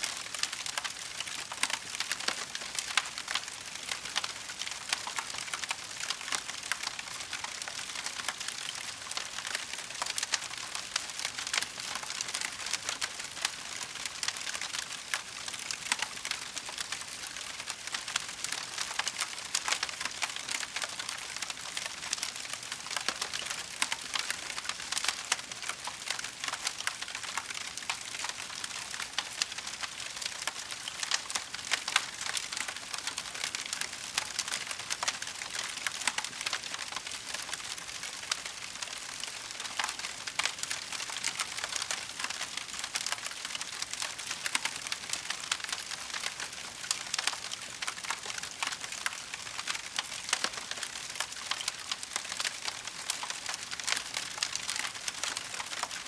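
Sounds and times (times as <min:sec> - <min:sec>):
wood fire crackling: 0:00.2 - 0:56.0.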